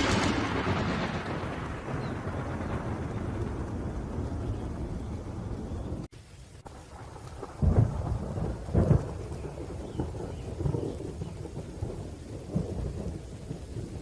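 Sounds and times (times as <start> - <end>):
loud thunder rumbles: 0.0 - 14.0
low rumble of thunder: 0.0 - 14.0
rain: 0.0 - 14.0.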